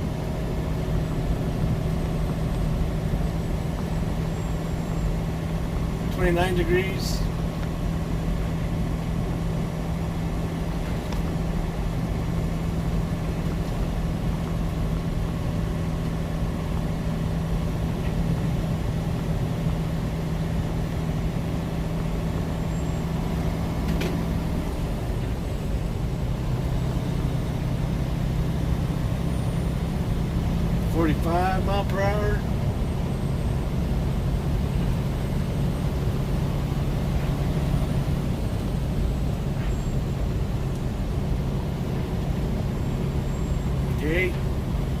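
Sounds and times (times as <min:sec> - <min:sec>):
road noise: 0:00.0 - 0:45.0
truck engine drone: 0:00.0 - 0:45.0.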